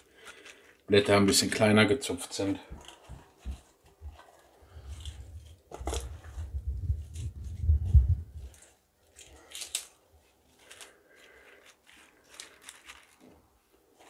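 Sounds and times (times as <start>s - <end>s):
lettuce leaves crinkling: 0.0s - 14.0s.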